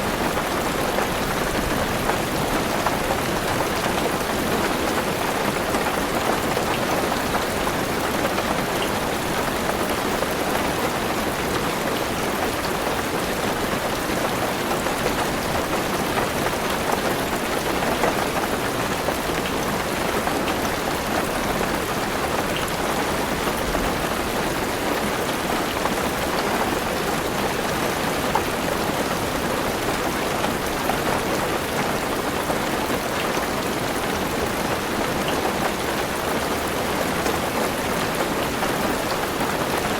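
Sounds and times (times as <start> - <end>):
heavy rain on car roof: 0.0 - 39.9.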